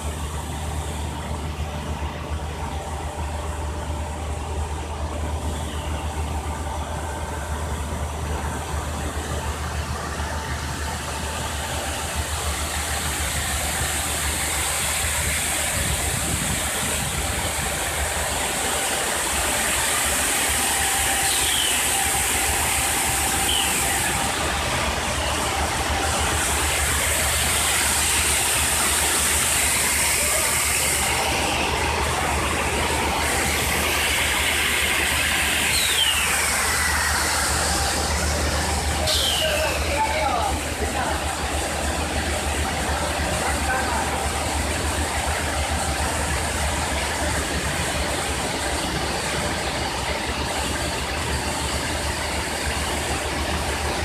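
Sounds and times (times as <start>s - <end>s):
low machine drive hum: 0.0s - 54.0s
water hissing off rollers: 0.0s - 54.0s.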